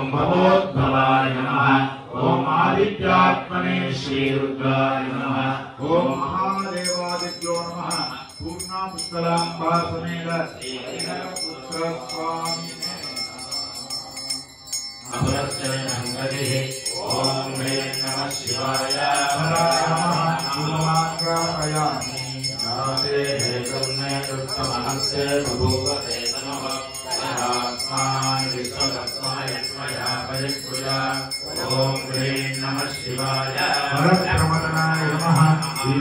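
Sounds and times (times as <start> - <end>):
voices chanting mantras: 0.0 - 36.0
high-pitched bell ringing rapidly: 5.8 - 36.0.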